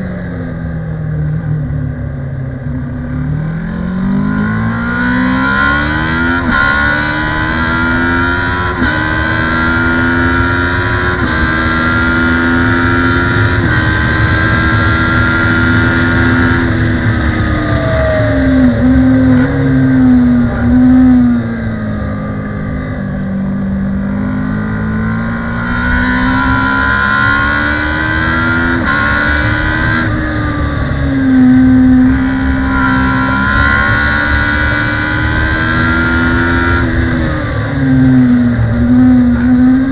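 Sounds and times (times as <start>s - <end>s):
race bike engine at full throttle: 0.0s - 39.9s.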